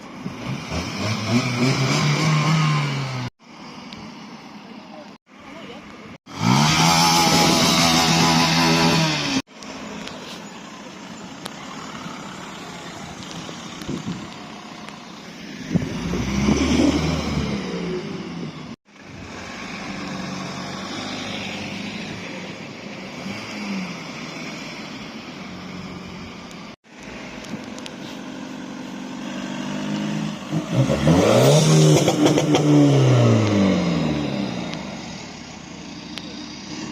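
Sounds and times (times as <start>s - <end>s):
car engines: 0.0s - 36.9s
outdoor street noise: 0.0s - 36.9s.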